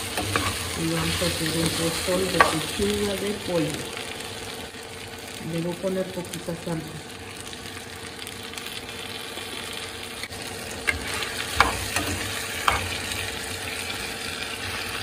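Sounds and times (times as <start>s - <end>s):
sauce sizzling in hot fat: 0.0s - 15.0s.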